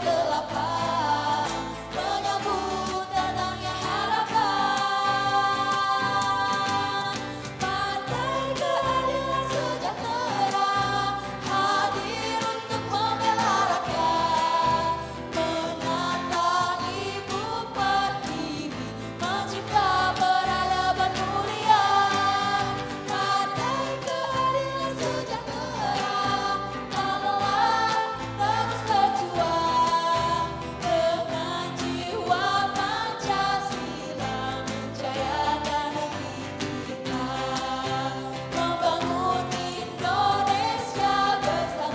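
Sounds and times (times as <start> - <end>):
person singing: 0.0 - 41.9.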